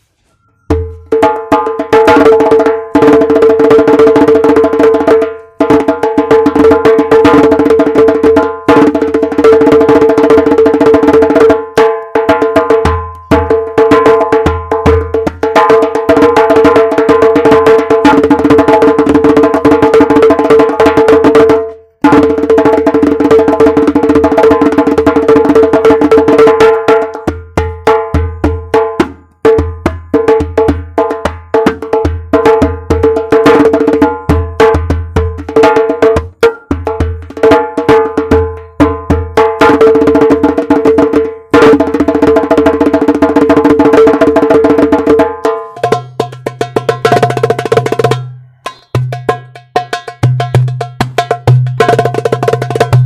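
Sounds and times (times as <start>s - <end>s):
darbuka finger rolls and strokes: 0.0s - 53.0s.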